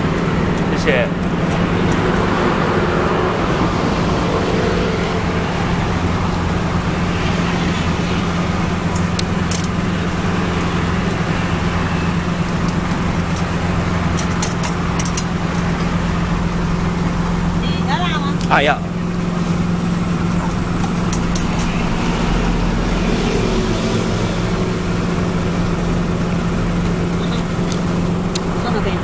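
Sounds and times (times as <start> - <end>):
deep rumbling hum: 0.0 - 29.0.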